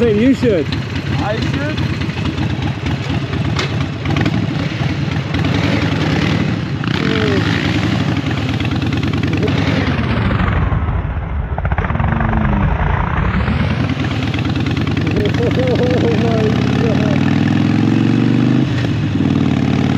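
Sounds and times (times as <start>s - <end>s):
motorcycle engines revving: 0.0s - 19.9s.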